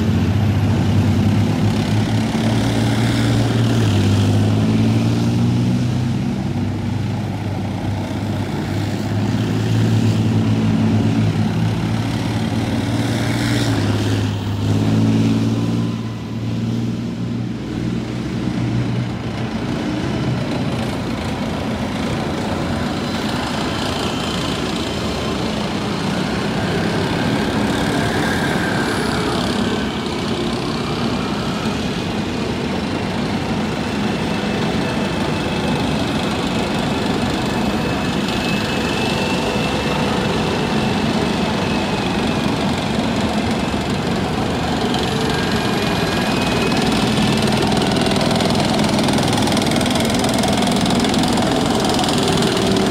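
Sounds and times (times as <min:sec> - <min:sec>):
tank engine: 0:00.0 - 0:52.9.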